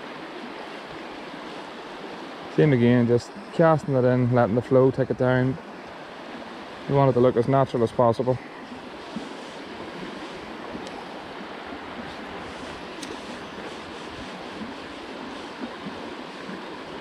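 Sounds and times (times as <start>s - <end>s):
river flowing over stones: 0.0s - 17.0s.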